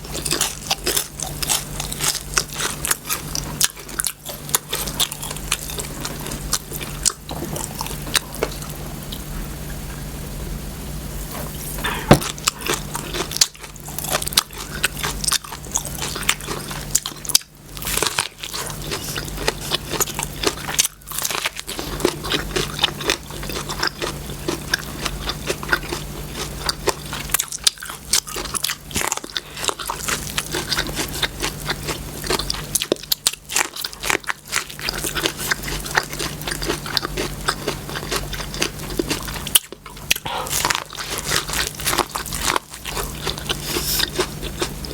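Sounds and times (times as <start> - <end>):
person chewing crunchy food: 0.0 - 9.4, 11.4 - 44.9
steady low hum: 0.0 - 44.9.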